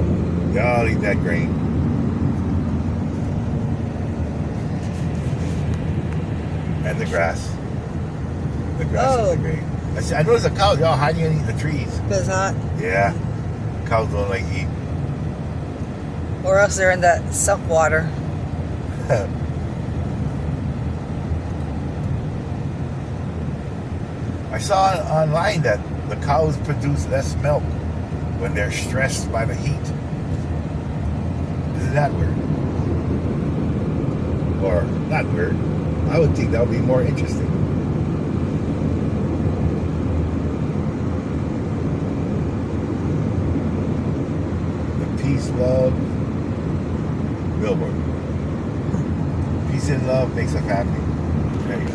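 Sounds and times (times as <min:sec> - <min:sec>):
car cabin road noise: 0:00.0 - 0:51.9.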